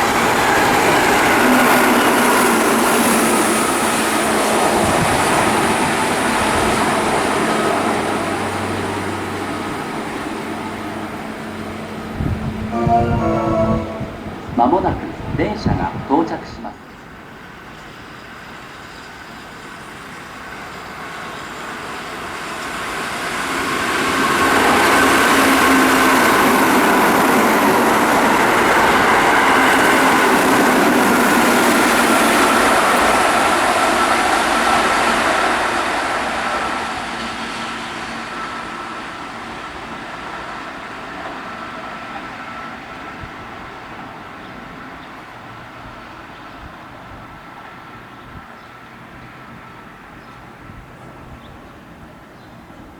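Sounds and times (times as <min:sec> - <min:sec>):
high train whine: 0:00.0 - 0:48.1.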